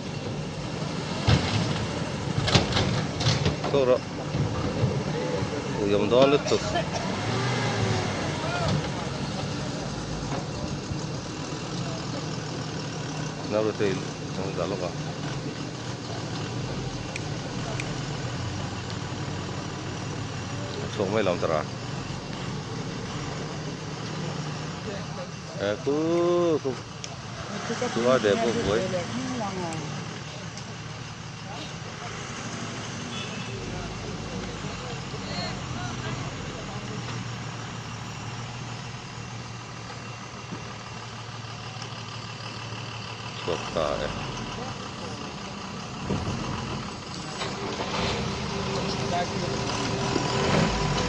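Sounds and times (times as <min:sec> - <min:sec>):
heavy vehicle engine running: 0:00.0 - 0:51.0.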